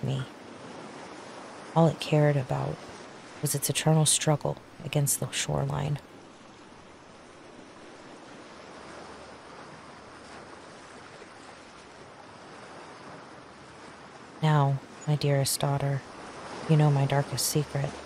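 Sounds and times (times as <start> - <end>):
waves washing onto a shore: 0.0 - 18.0.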